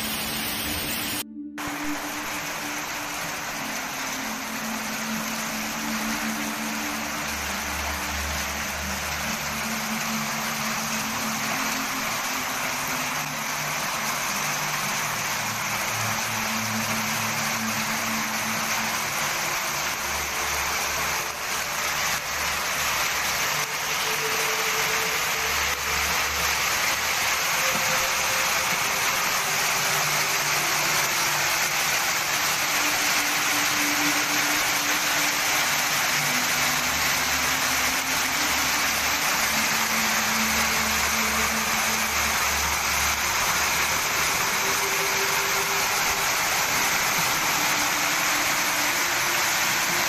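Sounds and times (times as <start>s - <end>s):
hail and heavy rain on pavement: 0.0s - 50.0s.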